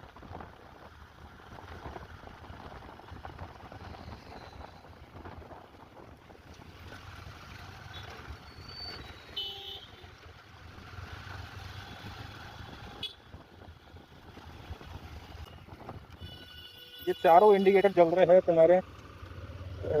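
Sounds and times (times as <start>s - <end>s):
motorcycle engine rumble: 0.0s - 17.0s, 18.0s - 20.0s
road and wind noise: 0.0s - 20.0s.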